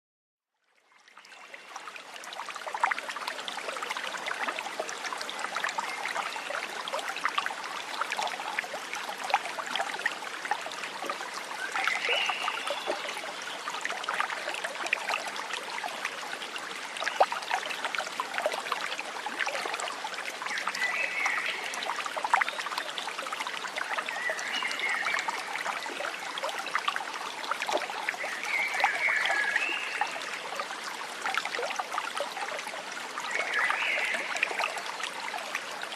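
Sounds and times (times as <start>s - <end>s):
stream trickling and splashing: 0.5s - 35.9s.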